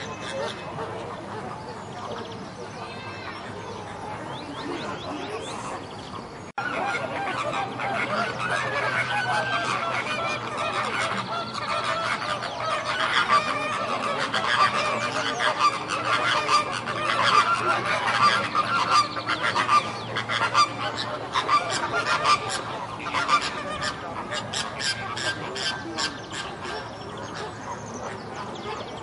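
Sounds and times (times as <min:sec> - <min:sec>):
flamingos honking: 0:00.0 - 0:29.0.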